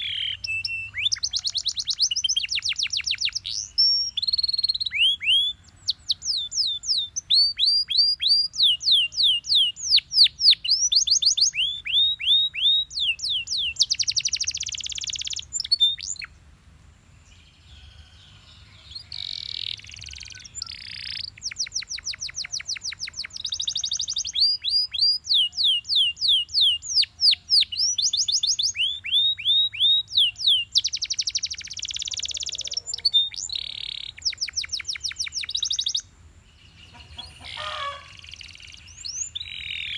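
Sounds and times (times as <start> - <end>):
canary singing: 0.0 - 16.4, 17.3 - 39.9.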